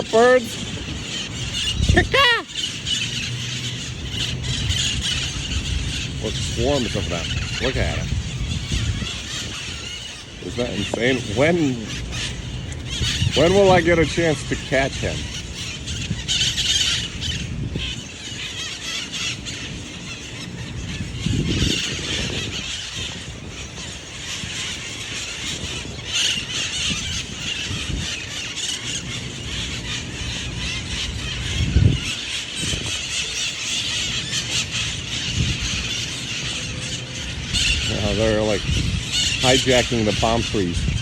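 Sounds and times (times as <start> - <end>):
parrots screeching and squawking: 0.0 - 41.0.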